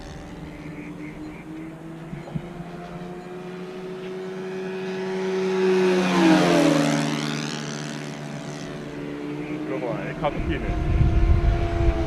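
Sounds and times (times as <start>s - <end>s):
model plane engine flying past: 0.0s - 12.0s
steady engine drone: 0.0s - 12.0s.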